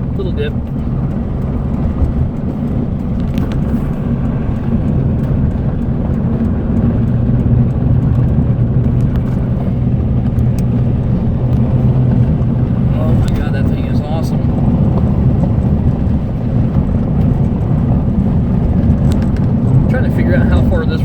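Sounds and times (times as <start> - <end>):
car engine drone and road noise: 0.0 - 21.0.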